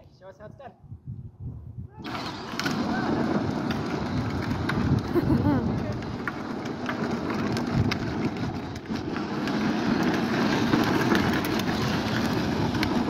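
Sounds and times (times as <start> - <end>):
toy car driving on asphalt: 2.0 - 13.0.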